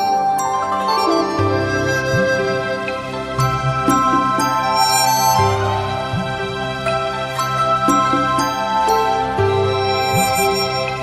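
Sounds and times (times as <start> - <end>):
gentle new-age instrumental music: 0.0 - 11.0.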